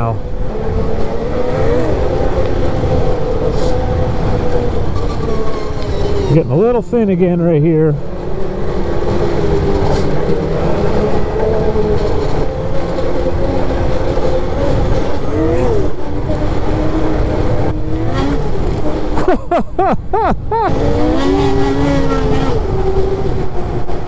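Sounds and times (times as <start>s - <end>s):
snowmobile engine revving: 0.0s - 6.7s, 7.9s - 24.0s.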